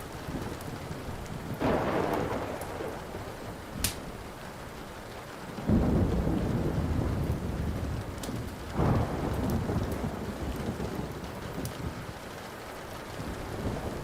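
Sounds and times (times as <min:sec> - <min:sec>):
steady rain: 0:00.0 - 0:14.0
thunder rumbling: 0:00.0 - 0:14.0
wood fire crackling: 0:00.0 - 0:14.0.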